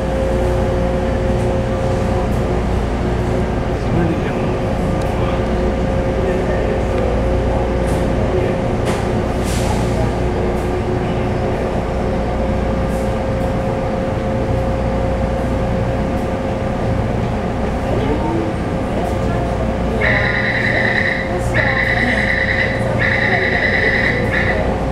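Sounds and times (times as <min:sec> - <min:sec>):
train wheels rumbling on rail: 0:00.0 - 0:24.9.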